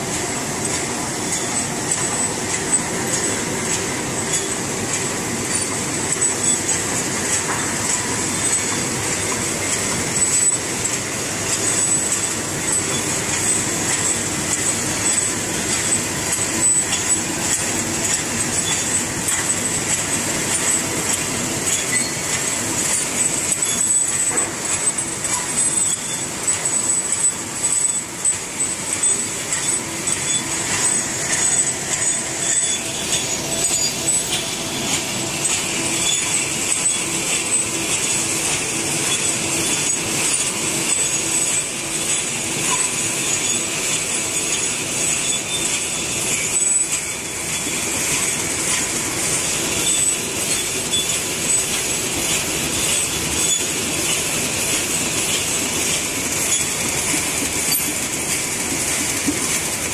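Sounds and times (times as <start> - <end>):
high machine whine: 0.0 - 59.9
rapid mechanical clatter: 0.0 - 59.9.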